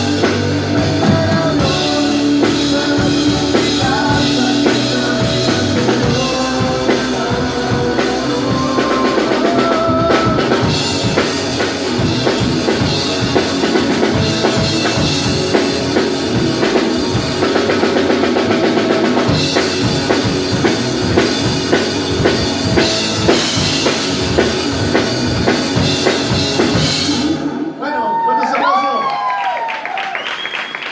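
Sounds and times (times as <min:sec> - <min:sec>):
bass drum and snare beat: 0:00.0 - 0:27.2
rock band playing live: 0:00.0 - 0:27.8.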